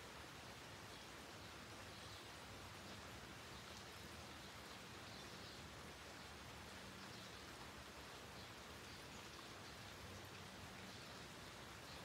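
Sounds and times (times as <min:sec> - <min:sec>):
light rain on leaves: 0:00.0 - 0:12.0
faint bird chirps: 0:00.8 - 0:12.0.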